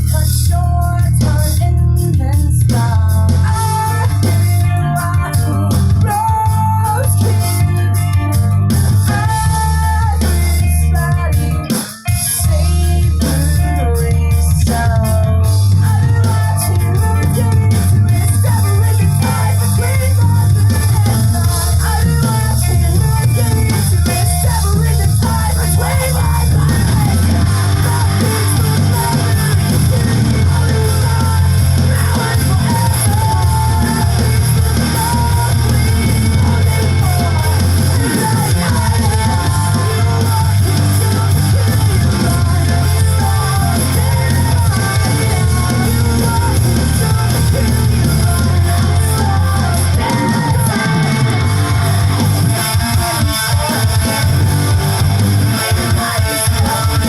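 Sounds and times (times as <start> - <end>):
loud rock music: 0.0 - 57.0
person singing: 0.0 - 57.0.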